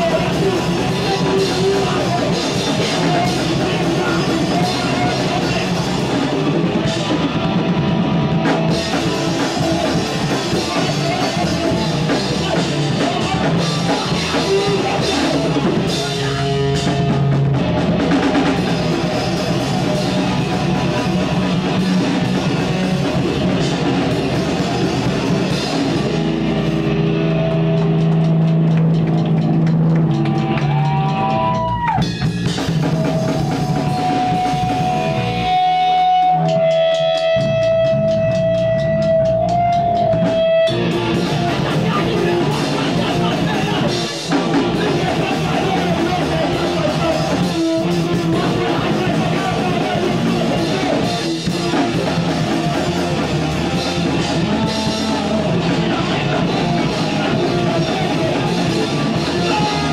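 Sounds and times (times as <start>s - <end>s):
punk band playing loud: 0.0s - 59.9s.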